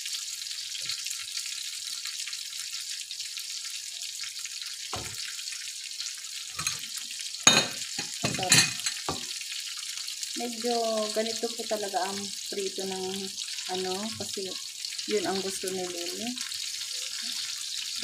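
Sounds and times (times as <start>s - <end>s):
fish sizzling in frying pan: 0.0s - 18.0s.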